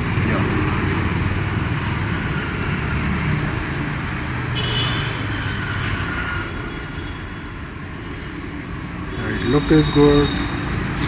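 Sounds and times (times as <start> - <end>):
road traffic engines: 0.0 - 11.0.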